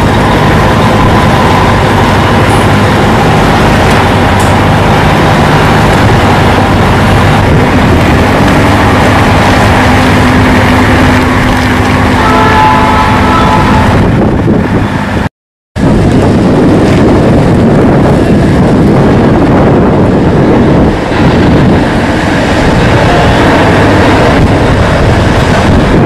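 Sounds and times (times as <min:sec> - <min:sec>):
heavy truck engine running: 0:00.0 - 0:26.0
wind noise on microphone: 0:00.0 - 0:26.0.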